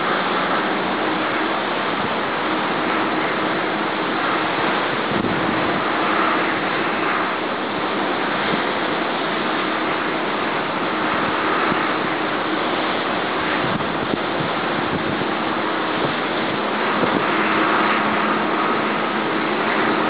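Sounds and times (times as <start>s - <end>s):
stormy sea surf breaking: 0.0s - 20.0s.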